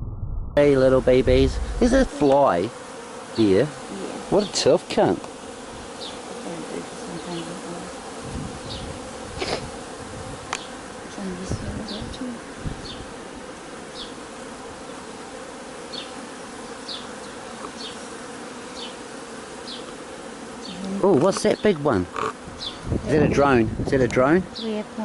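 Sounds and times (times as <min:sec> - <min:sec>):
bees buzzing: 0:00.8 - 0:25.0.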